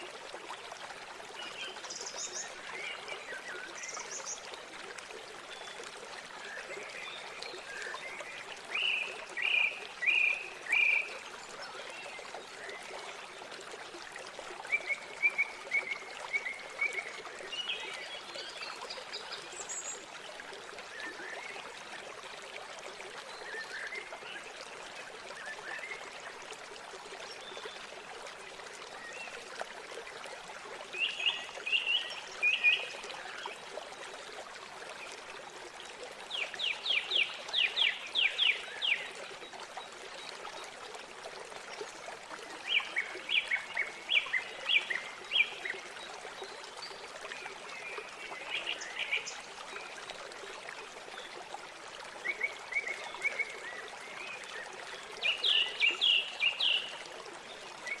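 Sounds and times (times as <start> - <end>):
river water running: 0.0 - 58.0.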